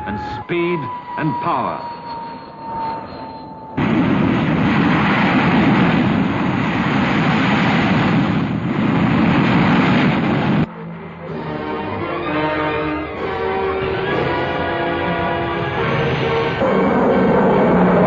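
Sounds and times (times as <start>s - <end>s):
loud jet engine roar: 0.0s - 18.0s.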